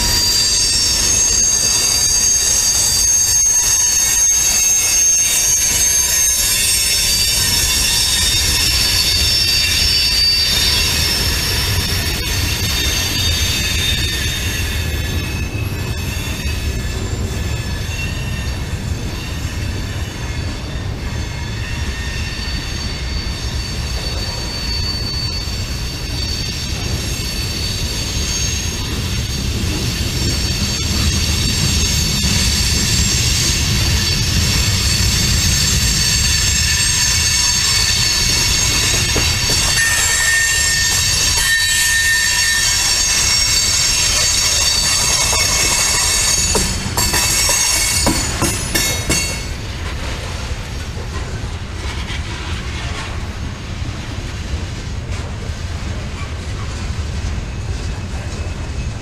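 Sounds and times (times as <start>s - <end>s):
high-pitched wheel squeal: 0.0s - 49.8s
freight train wheels rumbling on rail: 0.0s - 59.0s.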